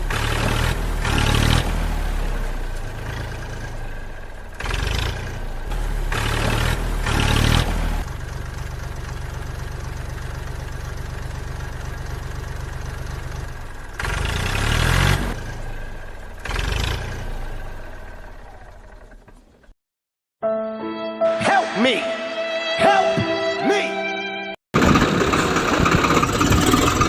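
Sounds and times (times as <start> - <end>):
small engine idling and revving: 0.0 - 19.8, 24.8 - 27.0.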